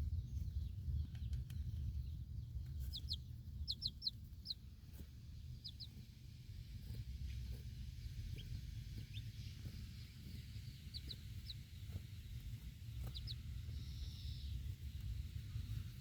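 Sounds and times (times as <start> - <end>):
baby chicks peeping: 0.0 - 16.0
steady low rumble: 0.0 - 16.0.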